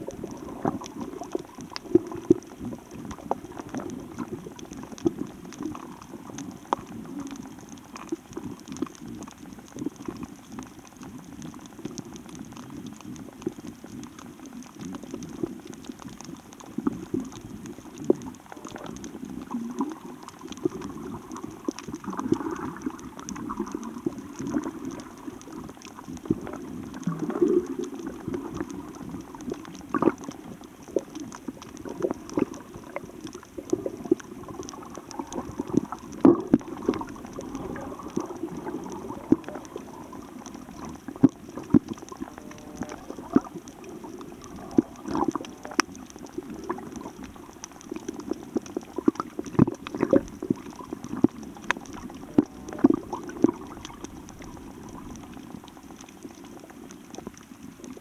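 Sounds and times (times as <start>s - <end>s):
crackle of small clicks: 0.0s - 58.0s
seawater bubbling and sloshing: 0.0s - 58.0s.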